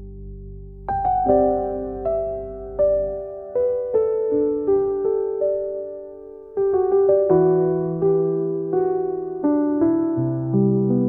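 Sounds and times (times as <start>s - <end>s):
soft electric piano chords: 0.0s - 11.0s.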